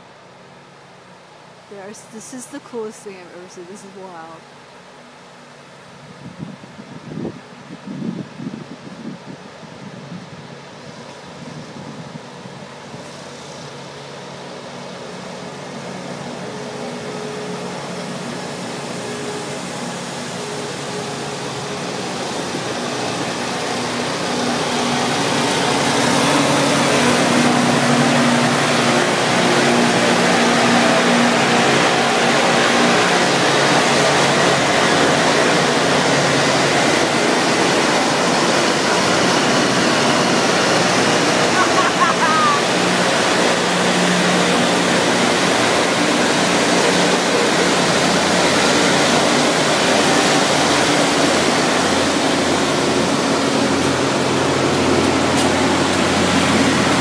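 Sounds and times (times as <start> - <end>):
rail grinding noise: 0.0 - 57.0
diesel engine hum: 6.8 - 57.0.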